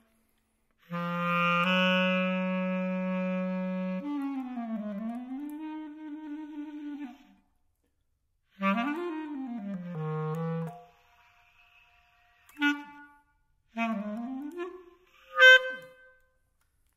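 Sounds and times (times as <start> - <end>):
solo woodwind phrases: 0.0 - 16.5.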